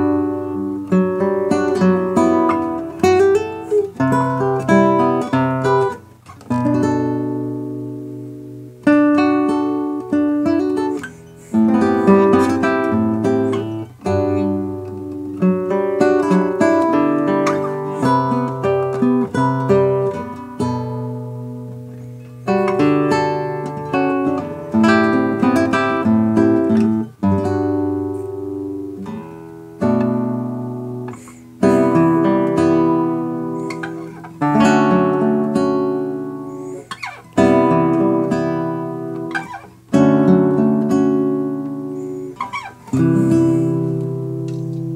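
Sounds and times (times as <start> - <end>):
classical guitar playing: 0.0 - 44.9.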